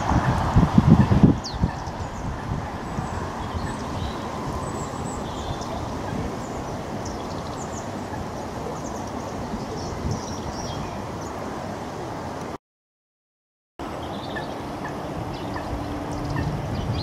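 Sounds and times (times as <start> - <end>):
small birds chirping: 1.0 - 11.5, 13.8 - 17.0.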